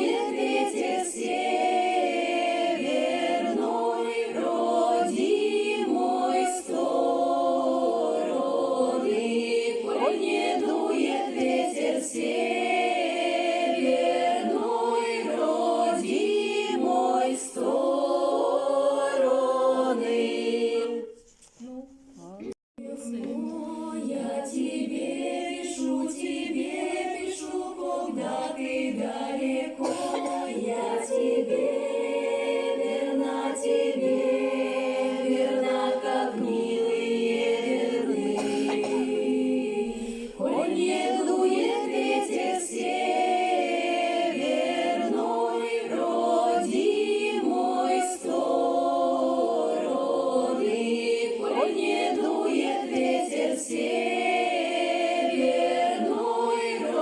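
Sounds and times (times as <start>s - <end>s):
choir singing: 0.0s - 21.3s, 22.8s - 57.0s.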